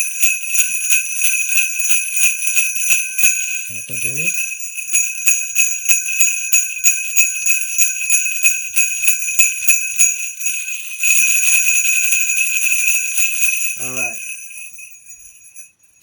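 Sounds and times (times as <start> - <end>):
sleigh bells jingling: 0.0 - 16.0.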